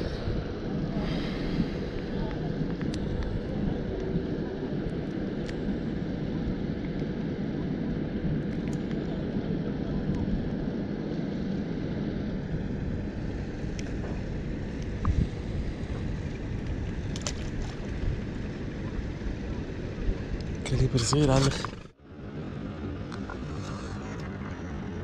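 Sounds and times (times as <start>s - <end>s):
faint steady hum: 0.0s - 25.0s
wind rumble on microphone: 0.0s - 25.0s.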